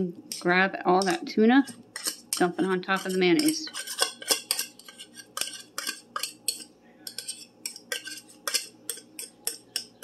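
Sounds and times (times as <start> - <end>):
fork scraping and clinking in can: 0.3 - 10.0.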